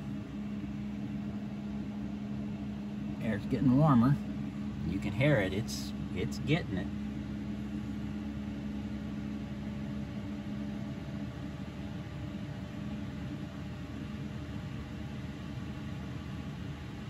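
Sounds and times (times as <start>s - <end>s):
heater fan whirring: 0.0s - 17.0s
low hum: 0.0s - 17.0s.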